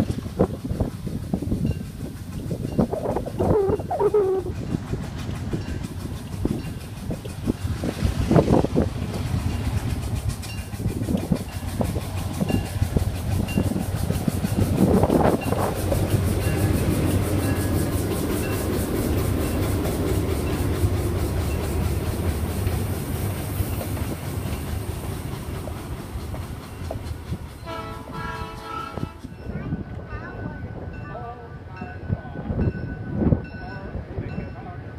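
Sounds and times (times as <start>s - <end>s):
wheels clicking over rail joints: 0.0s - 30.4s
diesel train engine drone: 0.0s - 34.9s.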